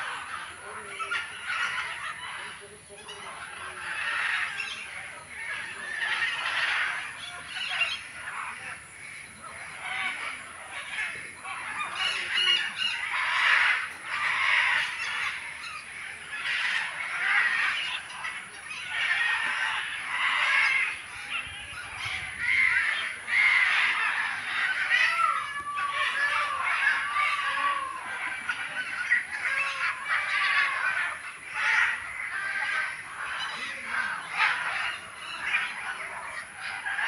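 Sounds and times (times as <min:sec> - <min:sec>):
birds calling harshly: 0:00.0 - 0:37.0.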